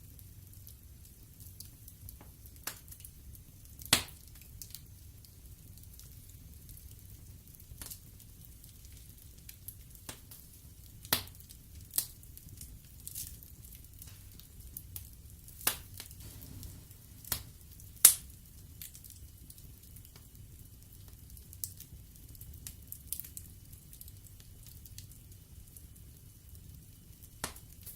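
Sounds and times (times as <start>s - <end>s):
low rumble of flames: 0.0s - 27.9s
wood fire crackling and popping: 0.0s - 27.9s.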